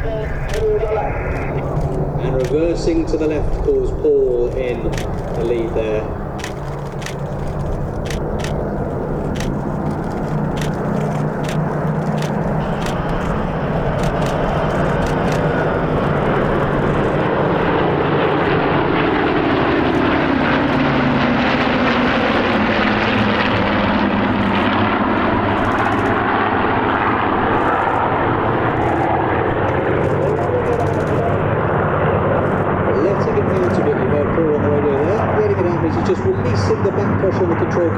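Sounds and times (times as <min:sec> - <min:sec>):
propeller planes flying past: 0:00.0 - 0:37.9.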